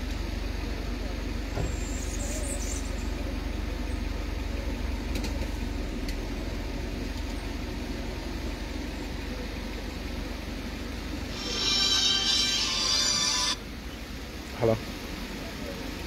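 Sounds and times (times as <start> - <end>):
van engine idling: 0.0 - 16.0.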